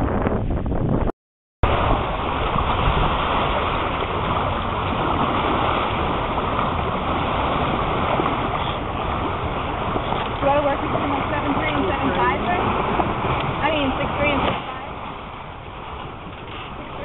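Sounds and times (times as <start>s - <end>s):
wind on microphone: 0.0s - 17.0s
water streaming along hull: 1.6s - 17.0s.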